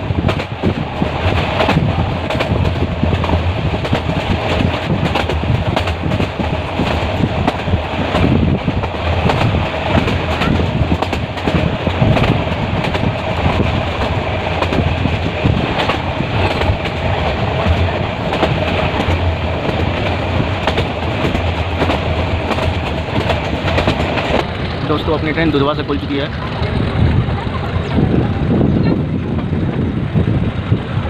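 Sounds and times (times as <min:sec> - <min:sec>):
train rumbling: 0:00.0 - 0:31.0
wheels clacking over rail joints: 0:00.0 - 0:31.0.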